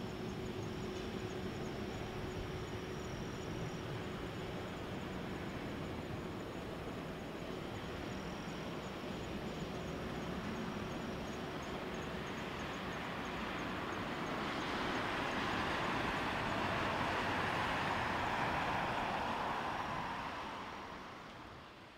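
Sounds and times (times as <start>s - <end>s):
jet engines running: 0.0s - 21.9s.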